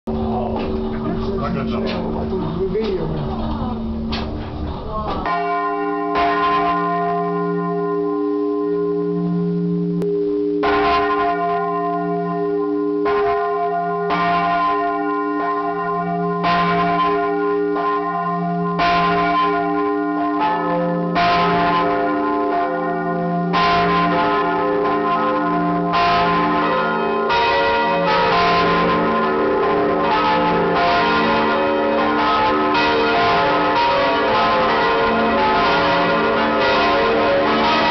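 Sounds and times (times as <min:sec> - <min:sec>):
large church bells ringing: 0:00.1 - 0:04.5, 0:05.2 - 0:37.9.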